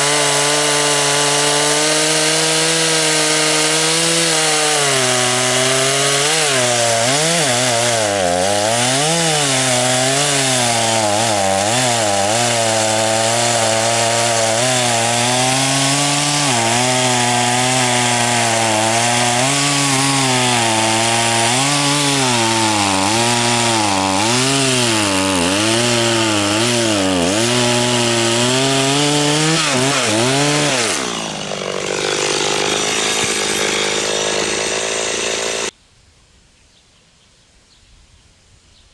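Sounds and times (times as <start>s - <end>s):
chainsaw cutting wood: 0.0s - 35.7s.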